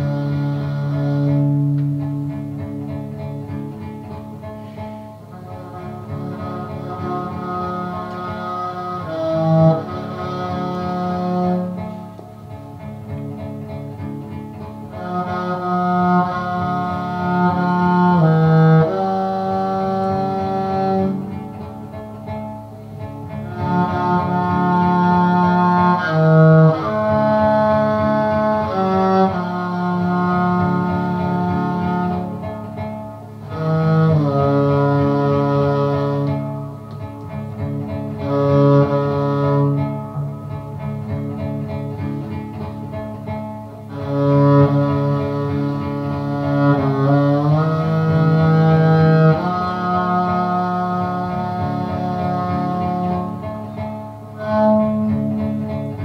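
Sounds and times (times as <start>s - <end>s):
cello playing slow bowed melody: 0.0s - 56.0s.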